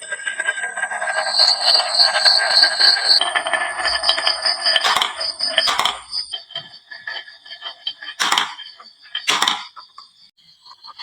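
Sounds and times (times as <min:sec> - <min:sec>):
marbles clicking down wooden run: 0:01.2 - 0:10.0.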